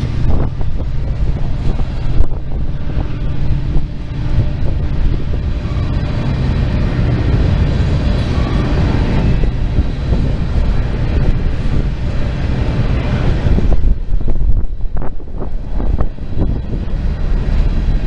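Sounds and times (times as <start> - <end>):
freight train rolling past: 0.0 - 18.0.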